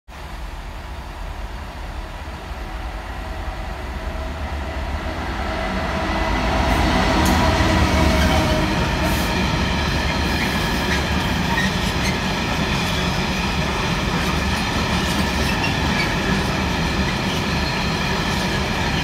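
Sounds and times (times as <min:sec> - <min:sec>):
diesel locomotive engine drone: 0:00.1 - 0:19.0.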